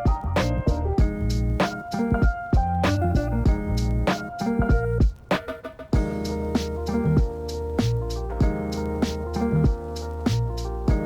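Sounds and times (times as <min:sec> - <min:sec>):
mellow keyboard instrumental: 0:00.0 - 0:11.0
steady drum beat: 0:00.0 - 0:11.0.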